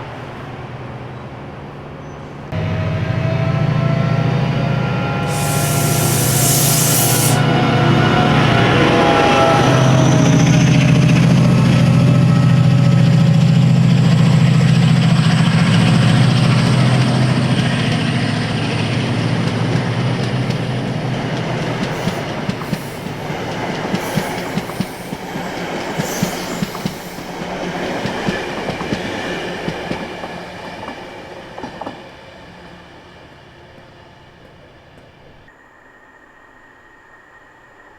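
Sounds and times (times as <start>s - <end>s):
diesel locomotive engine drone: 0.0s - 37.9s.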